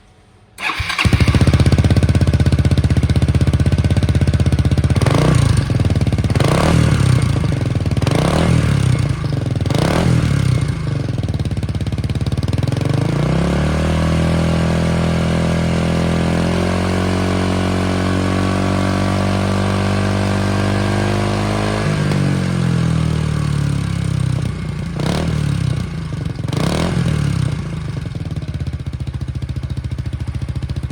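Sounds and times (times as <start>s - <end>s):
scooter engine idling and revving: 0.6s - 30.9s.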